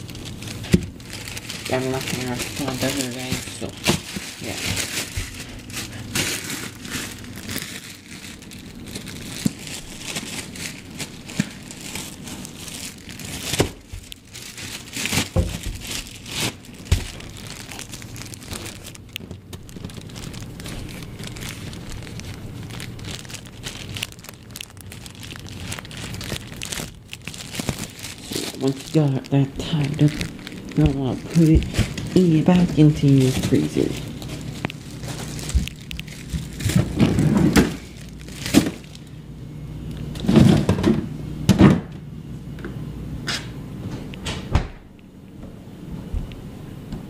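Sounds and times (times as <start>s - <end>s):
plastic bag crinkling: 0.0s - 40.8s.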